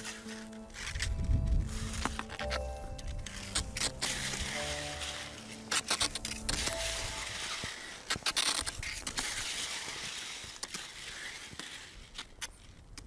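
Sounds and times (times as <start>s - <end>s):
ski pole tips clicking on ice: 0.0s - 13.0s
skis scraping over ice and snow: 0.0s - 13.0s.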